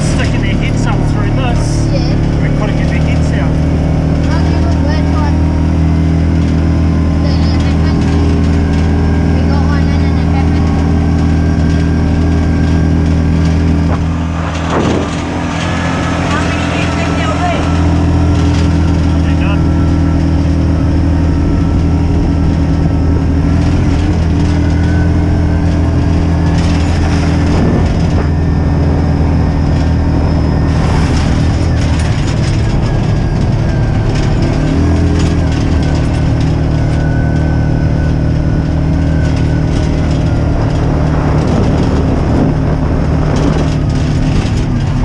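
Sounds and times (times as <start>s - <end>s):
short clatters: 0.0s - 45.0s
vehicle engine running: 0.0s - 45.0s.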